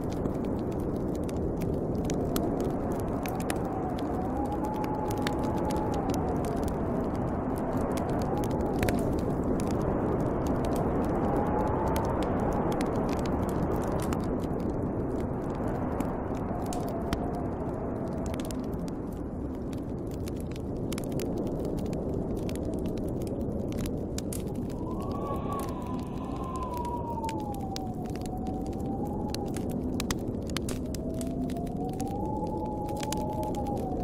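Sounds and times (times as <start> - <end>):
howling storm wind: 0.0 - 34.0
wood fire crackling: 0.0 - 34.0.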